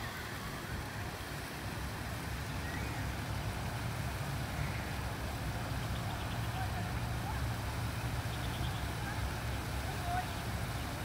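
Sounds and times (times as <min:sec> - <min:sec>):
low uneven rumble: 0:00.0 - 0:11.0
waterfall rushing: 0:00.0 - 0:11.0.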